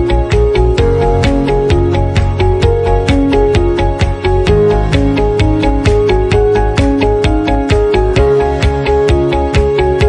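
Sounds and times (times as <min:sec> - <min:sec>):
music with plucked melody: 0:00.0 - 0:10.0.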